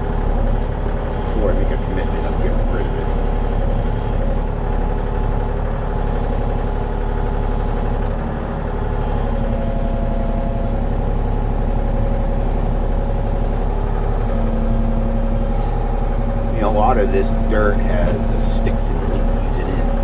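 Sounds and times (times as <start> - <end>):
diesel digger engine running: 0.0 - 20.0.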